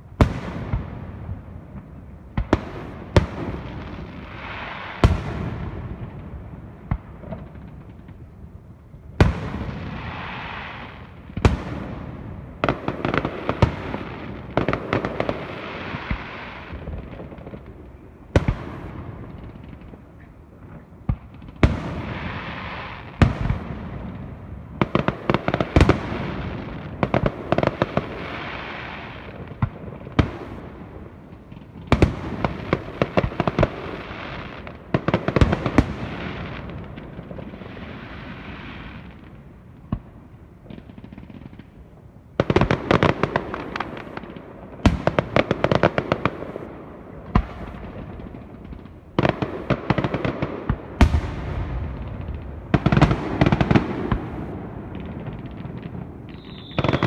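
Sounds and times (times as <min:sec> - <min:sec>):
fireworks crackling: 0:00.0 - 0:57.0
fireworks bangs: 0:09.2 - 0:57.0.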